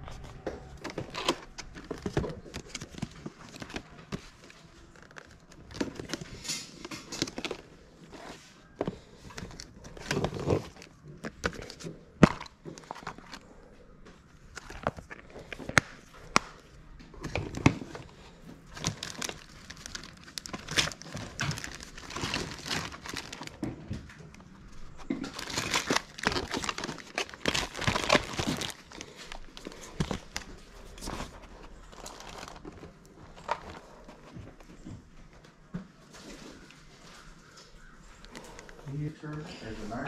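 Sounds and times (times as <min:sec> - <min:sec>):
plastic bags crinkling: 0:00.0 - 0:34.9.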